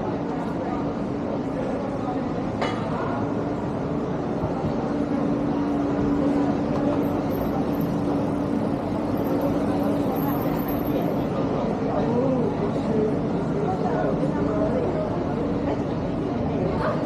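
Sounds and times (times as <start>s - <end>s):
city traffic: 0.0s - 17.0s.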